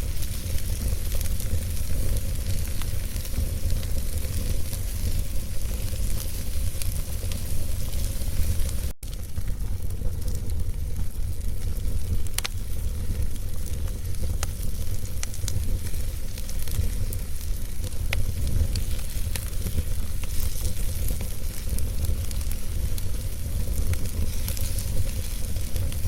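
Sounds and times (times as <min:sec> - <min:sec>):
logs crackling and popping: 0:00.0 - 0:26.0
low rumble of fire: 0:00.0 - 0:26.0.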